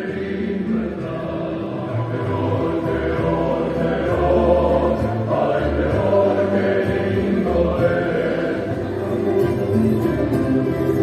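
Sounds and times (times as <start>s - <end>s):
low bass notes: 0.0s - 11.0s
voices singing chant-like notes: 0.0s - 11.0s.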